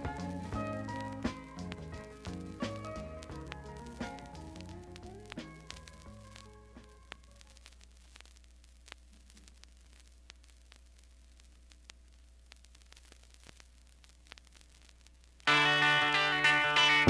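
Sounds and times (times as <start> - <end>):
faint hiss: 0.0 - 17.0
vinyl clicks and pops: 0.0 - 17.0.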